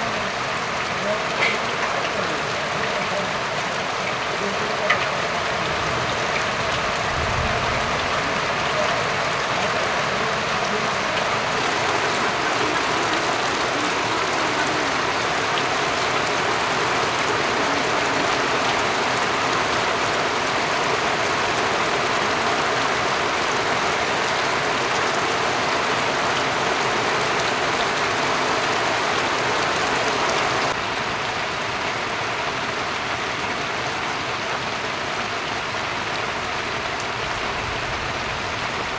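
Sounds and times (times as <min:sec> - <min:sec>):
heavy rain falling: 0:00.0 - 0:38.9
water pouring off roof: 0:00.0 - 0:38.9.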